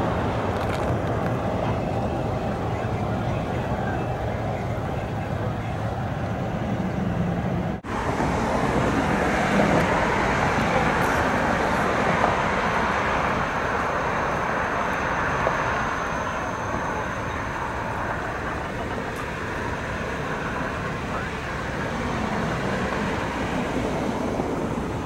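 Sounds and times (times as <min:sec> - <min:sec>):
highway traffic rushing: 0:00.0 - 0:25.0.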